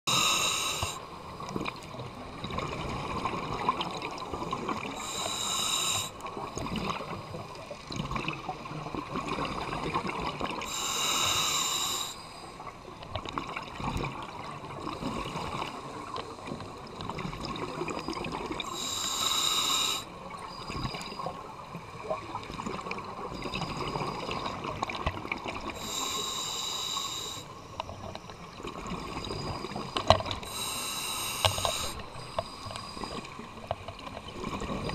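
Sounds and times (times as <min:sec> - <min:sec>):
steady underwater rush: 0:00.1 - 0:34.9.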